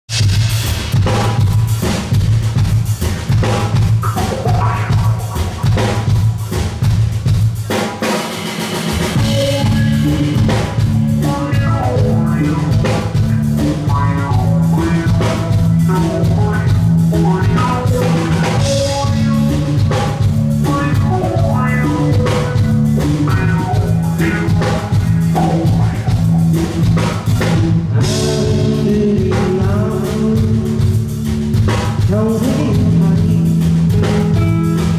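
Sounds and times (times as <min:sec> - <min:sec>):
bass guitar: 0:00.1 - 0:34.9
drum kit beat: 0:00.1 - 0:34.9
live rock band playing: 0:00.1 - 0:34.9.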